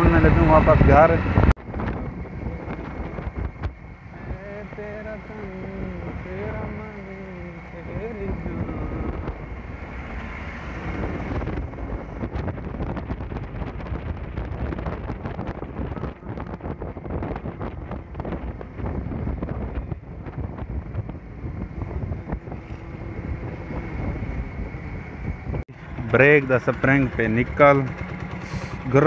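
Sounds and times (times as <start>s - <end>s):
motorcycle engine rumble: 0.0s - 29.0s
wind buffeting microphone: 0.0s - 29.0s.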